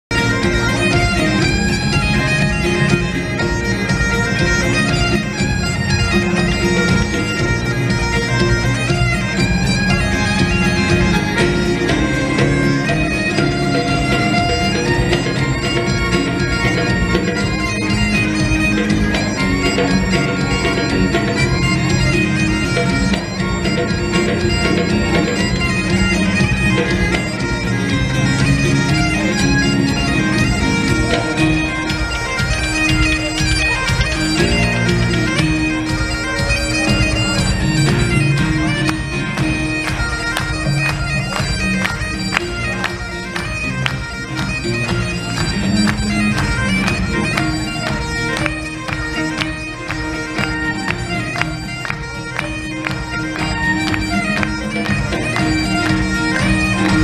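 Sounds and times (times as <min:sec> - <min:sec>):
bagpipes playing over drone: 0:00.1 - 0:57.0
folk band playing: 0:00.1 - 0:57.0.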